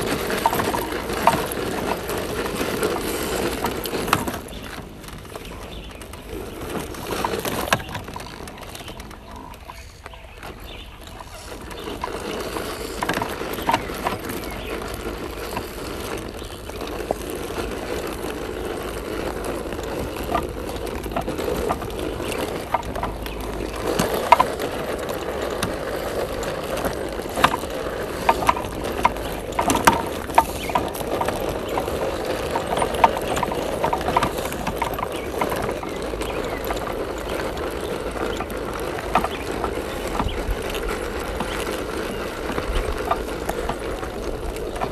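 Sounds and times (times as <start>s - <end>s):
tyres crunching on dried mud: 0.0s - 44.9s.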